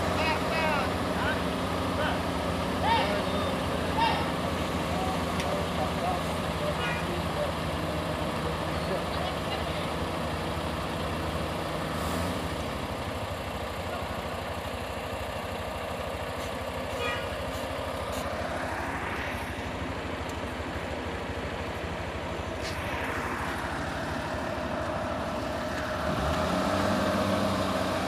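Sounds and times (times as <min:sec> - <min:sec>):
heavy truck diesel engine: 0:00.0 - 0:28.0
vehicles passing: 0:00.0 - 0:28.0.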